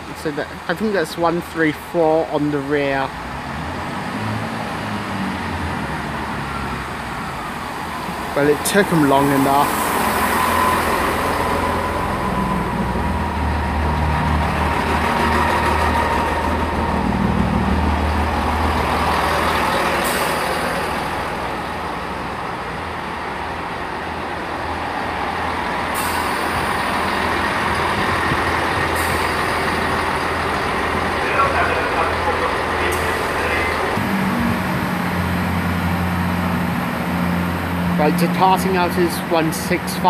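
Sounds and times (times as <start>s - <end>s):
diesel train engines droning: 0.0s - 40.0s.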